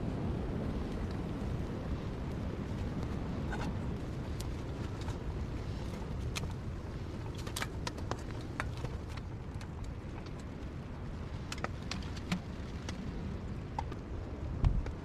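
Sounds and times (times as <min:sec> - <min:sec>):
low wind rumble: 0:00.0 - 0:15.0
sharp clicks and crackles: 0:00.5 - 0:15.0.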